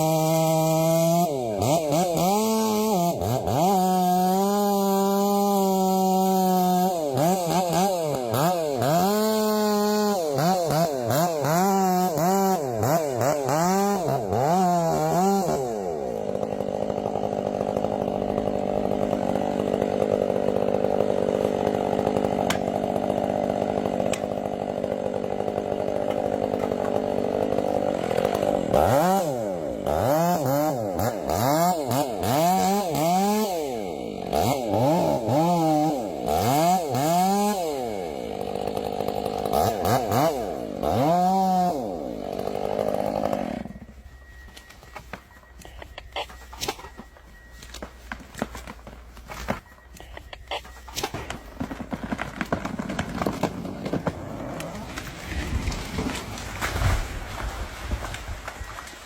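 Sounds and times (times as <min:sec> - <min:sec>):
chainsaw cutting wood: 0:00.0 - 0:59.0
chainsaw revving: 0:00.0 - 0:59.0.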